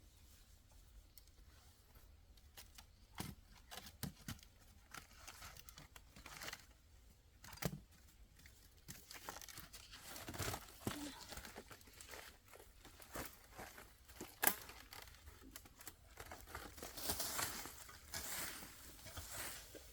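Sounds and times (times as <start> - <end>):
rustling and crinkling handling: 0.0 - 19.9.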